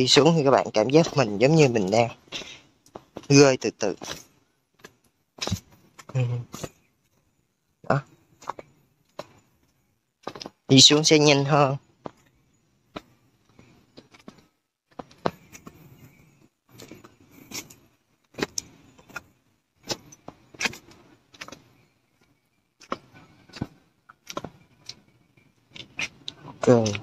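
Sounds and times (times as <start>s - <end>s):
footsteps on steps: 0.0s - 6.8s, 8.3s - 11.2s, 11.9s - 25.0s.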